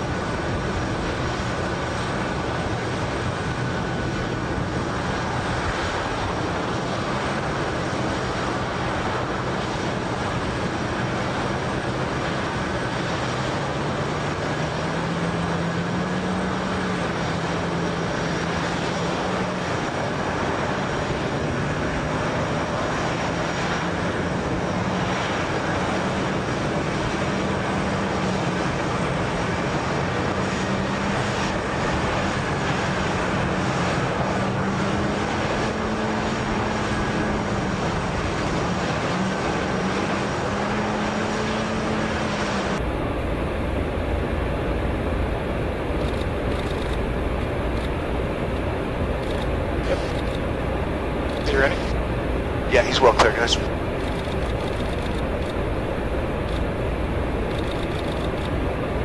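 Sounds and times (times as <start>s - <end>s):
jet engines droning: 0.0s - 59.0s.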